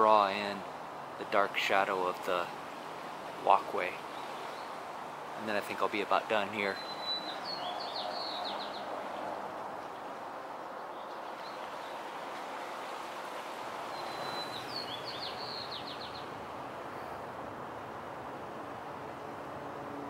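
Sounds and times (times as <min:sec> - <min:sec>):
songbird singing: 0:00.0 - 0:16.7
outdoor background hiss: 0:00.0 - 0:20.0.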